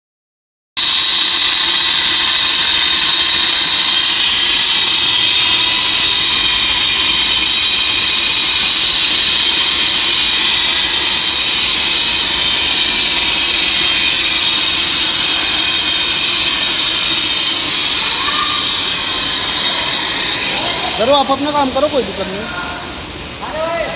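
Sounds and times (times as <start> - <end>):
car wash machinery hissing: 0.8 - 23.9.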